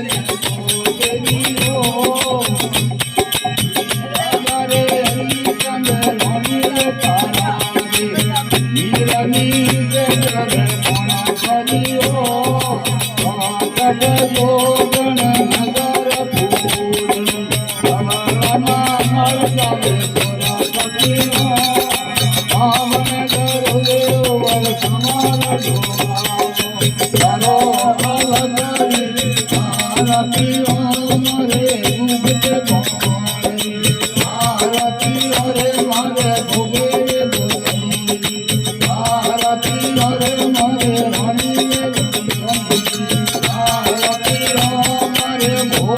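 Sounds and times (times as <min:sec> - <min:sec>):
person singing: 0:00.0 - 0:45.9
rhythmic percussion: 0:00.0 - 0:45.9.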